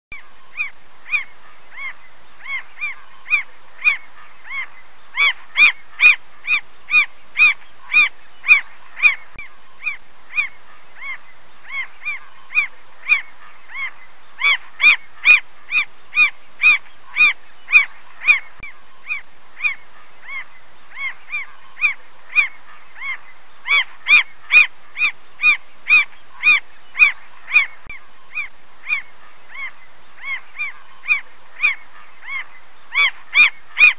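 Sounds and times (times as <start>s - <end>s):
mockingbird calling: 0.1s - 33.9s.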